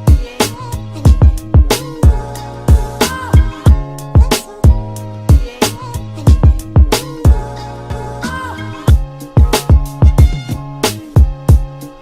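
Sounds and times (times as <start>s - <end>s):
hip hop backing music: 0.0s - 12.0s.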